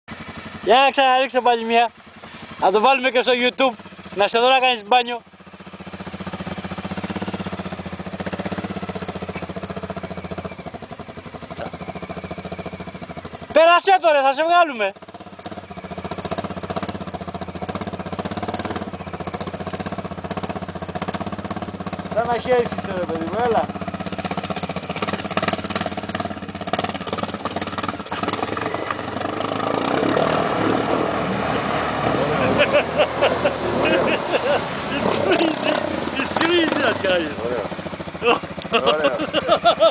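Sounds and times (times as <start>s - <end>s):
atv engine idling: 0.1s - 39.9s
wheels churning water: 0.2s - 39.9s.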